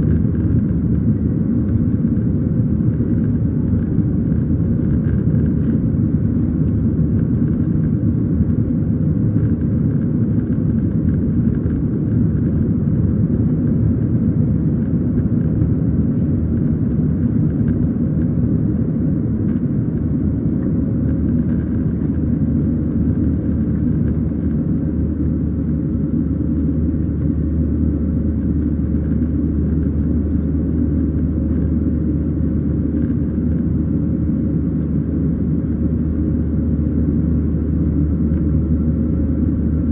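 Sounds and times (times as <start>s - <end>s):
airplane cabin roar: 0.0s - 39.9s
deep drone: 0.0s - 39.9s.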